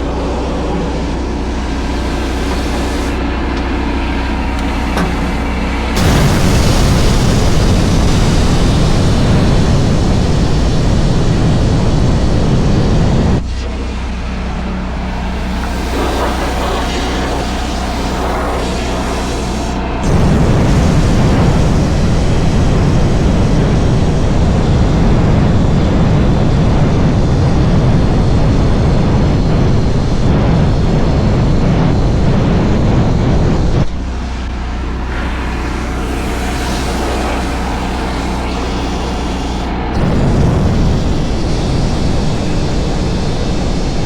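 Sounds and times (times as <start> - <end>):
low machinery hum: 0.0 - 44.0
plasma cutter hissing: 0.3 - 3.2, 4.6 - 13.4, 14.9 - 33.9, 35.0 - 44.0.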